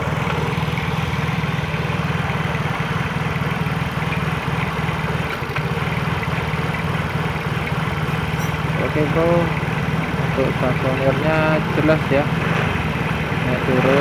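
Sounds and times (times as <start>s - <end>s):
scooter engine idling unsteadily: 0.0s - 14.0s.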